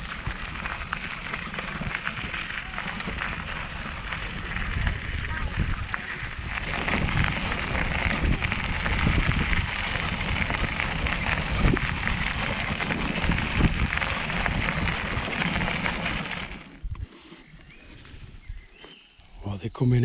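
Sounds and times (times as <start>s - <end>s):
wind buffeting microphone: 0.0s - 18.8s
bicycle rumbling and rattling: 0.0s - 19.2s.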